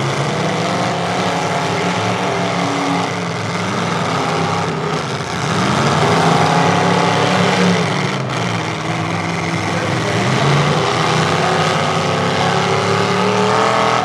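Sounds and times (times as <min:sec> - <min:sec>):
pickup truck engines revving: 0:00.0 - 0:14.0.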